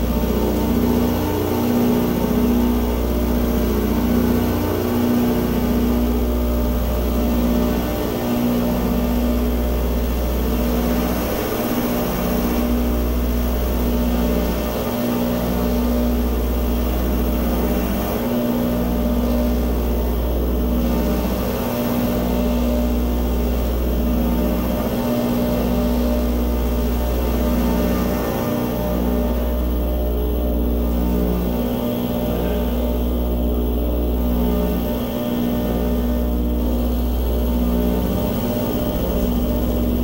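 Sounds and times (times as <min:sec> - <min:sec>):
deep electronic hum: 0:00.0 - 0:40.0
pulsing buzzing tones: 0:00.0 - 0:40.0.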